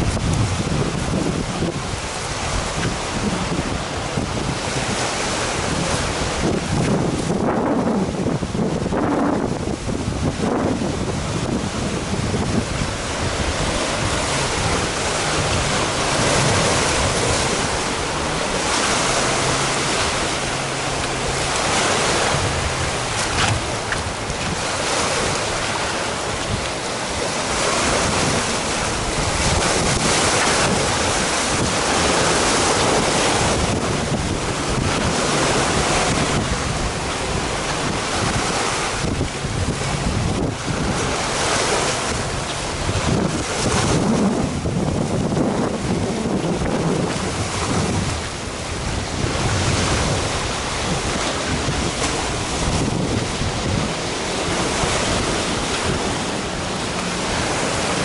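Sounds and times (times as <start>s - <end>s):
sea waves breaking on rocks: 0.0s - 58.0s
wind buffeting microphone: 0.0s - 58.0s.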